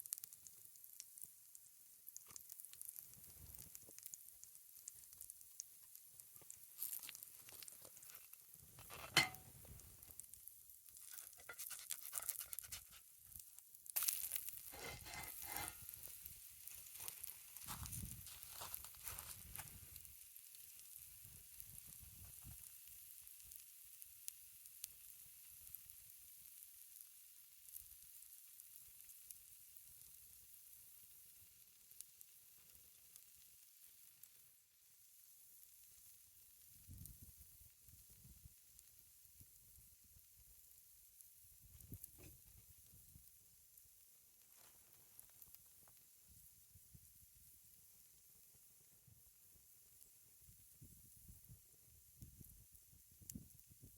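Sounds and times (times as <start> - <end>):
campfire crackling: 0.0 - 53.9
food sizzling in a skillet: 0.0 - 53.9.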